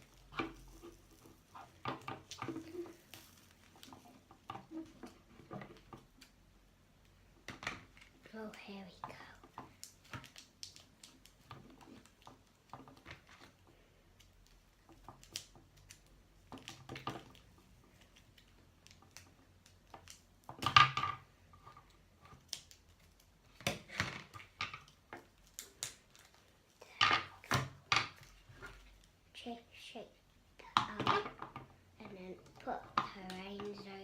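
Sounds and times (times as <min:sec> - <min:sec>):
plastic packaging rustling and clicking: 0:00.0 - 0:06.4, 0:07.0 - 0:29.2.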